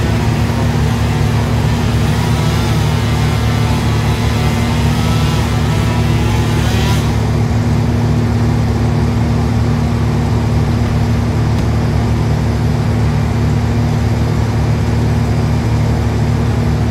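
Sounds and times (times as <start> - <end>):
engine droning: 0.0 - 16.9.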